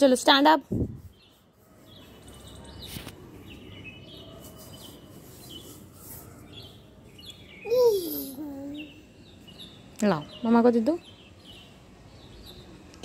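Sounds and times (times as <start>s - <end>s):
birds chirping: 0.0s - 13.0s
faint outdoor background: 0.0s - 13.0s.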